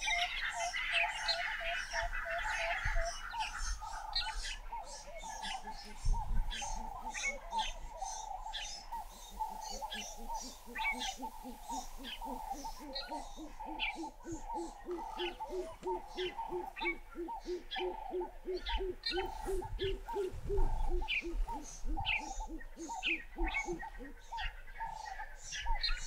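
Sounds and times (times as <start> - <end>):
bird low hoots: 0.0 - 26.0.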